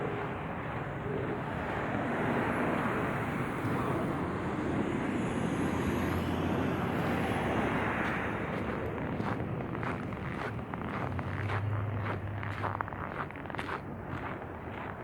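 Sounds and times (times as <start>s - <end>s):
vehicle passing by: 0.1s - 15.0s.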